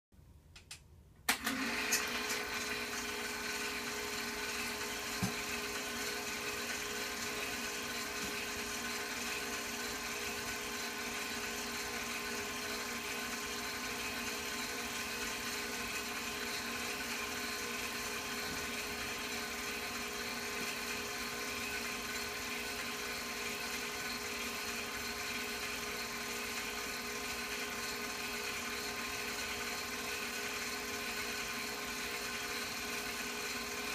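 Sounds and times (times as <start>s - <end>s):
movie projector motor whirring: 1.3s - 33.9s.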